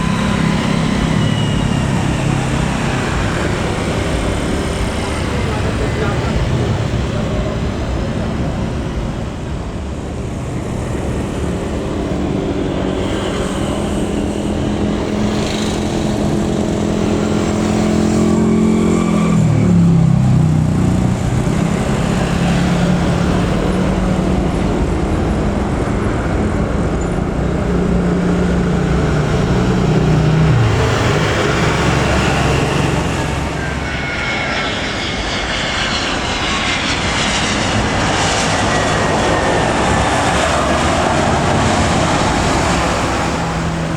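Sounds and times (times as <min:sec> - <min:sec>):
jet airliner passing overhead: 0:00.0 - 0:43.9.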